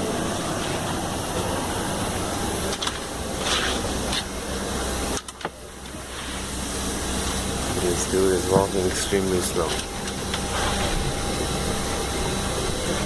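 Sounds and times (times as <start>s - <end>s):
cabin ventilation hiss and hum: 0.0s - 13.0s.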